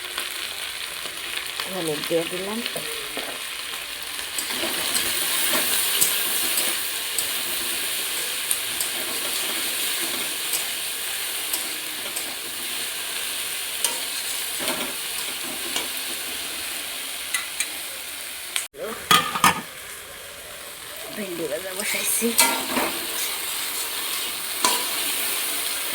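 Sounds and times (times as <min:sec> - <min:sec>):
okra sizzling in oil: 0:00.0 - 0:25.9.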